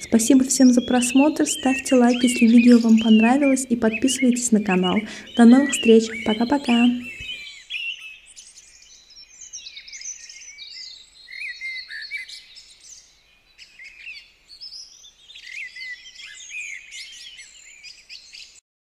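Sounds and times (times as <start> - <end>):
songbirds chirping: 0.0 - 18.6.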